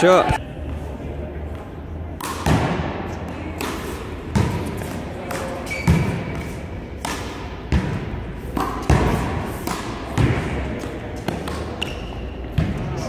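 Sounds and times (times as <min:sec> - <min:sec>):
handball thumping wall and floor: 0:02.2 - 0:13.0.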